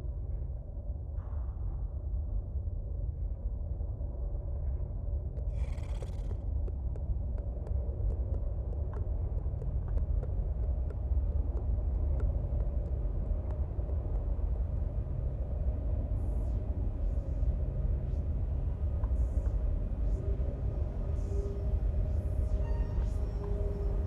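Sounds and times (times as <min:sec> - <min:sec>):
steady low rumble: 0:00.0 - 0:22.6.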